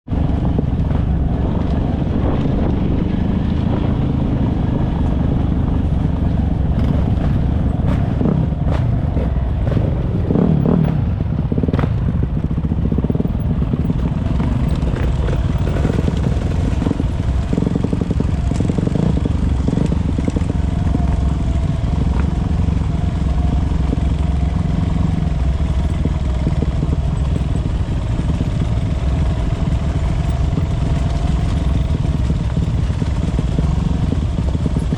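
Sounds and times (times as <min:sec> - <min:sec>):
dirt bike engines running: 0:00.1 - 0:34.9.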